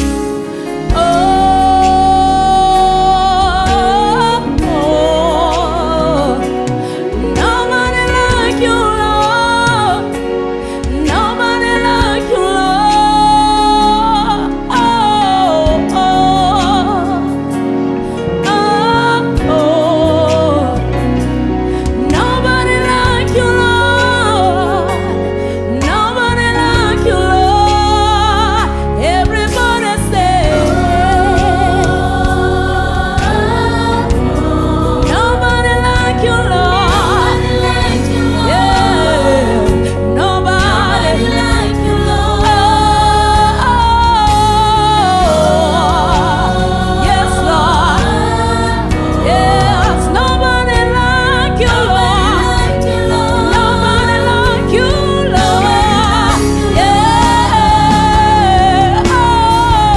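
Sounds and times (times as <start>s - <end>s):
band accompaniment: 0.0s - 59.9s
person singing gospel: 0.0s - 59.9s
steady bass: 0.0s - 59.9s.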